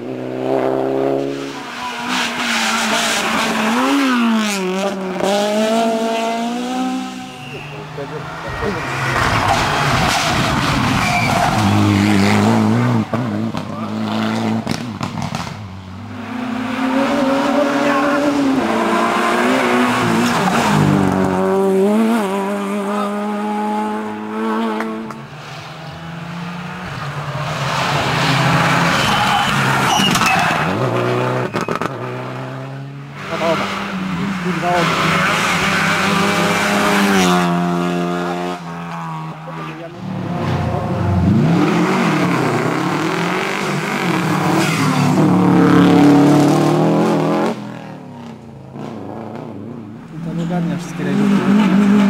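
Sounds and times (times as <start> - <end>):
rally car engines revving past: 0.0 - 52.0.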